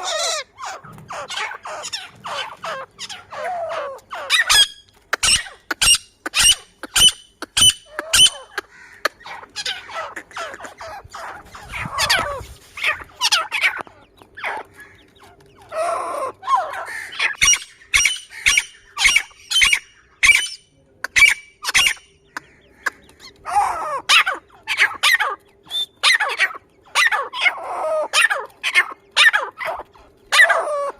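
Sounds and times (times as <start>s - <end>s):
francolin calling: 0.0s - 30.9s.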